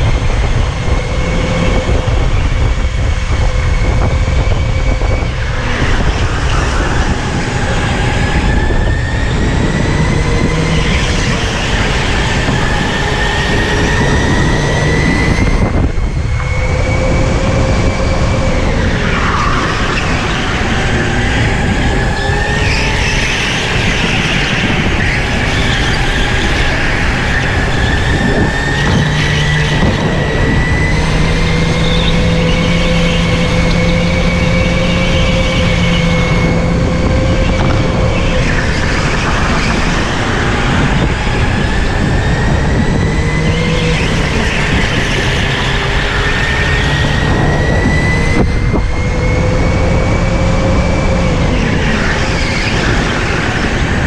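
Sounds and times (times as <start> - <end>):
chassis and tyres rumbling: 0.0 - 54.0
electric motor whining: 0.0 - 54.0.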